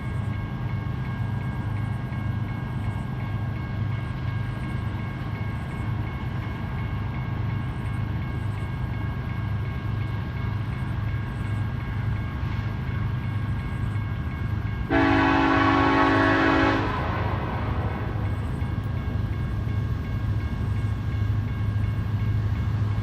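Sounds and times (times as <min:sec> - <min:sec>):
locomotive low rumble: 0:00.0 - 0:23.0.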